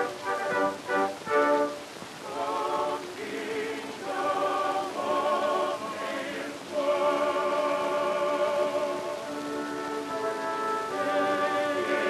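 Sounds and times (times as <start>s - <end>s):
voices singing held notes: 0.0s - 12.0s.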